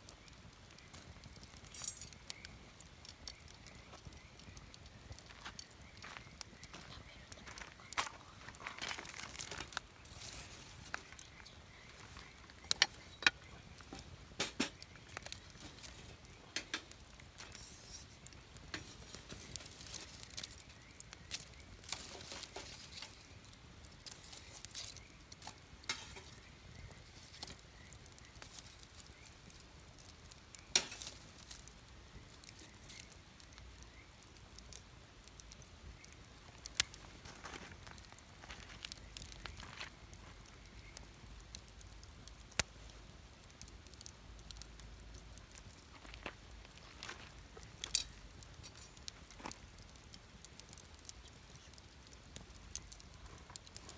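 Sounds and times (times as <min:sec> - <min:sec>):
campfire crackling and popping: 0:00.0 - 0:53.9
faint hiss: 0:06.6 - 0:53.9.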